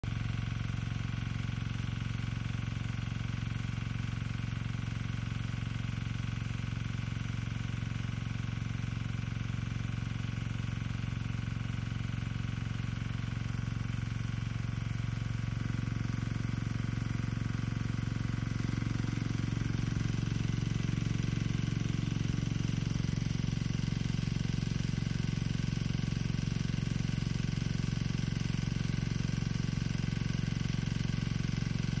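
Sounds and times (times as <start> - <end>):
water pump engine droning: 0.1 - 32.0.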